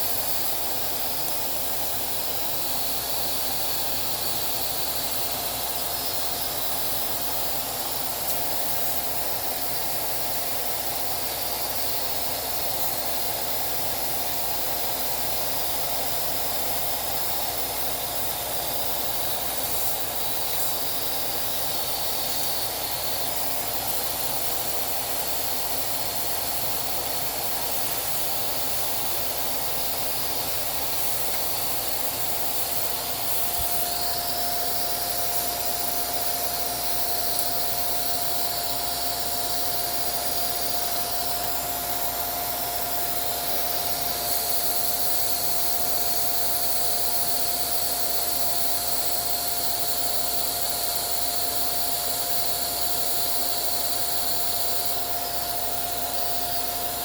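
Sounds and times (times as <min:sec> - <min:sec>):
small vacuum cleaner running: 0:00.0 - 0:57.0.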